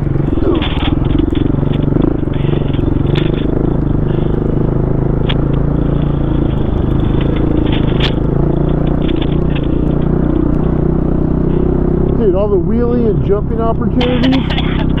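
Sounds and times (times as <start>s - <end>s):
sharp clicks and clatter: 0.0s - 12.4s, 13.5s - 15.0s
dirt bike engine revving: 0.0s - 15.0s.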